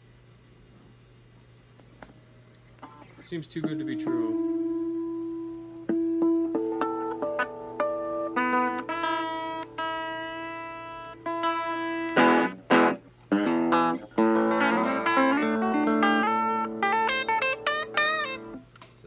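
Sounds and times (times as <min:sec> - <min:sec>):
electric guitar notes and chords: 0:02.8 - 0:18.7.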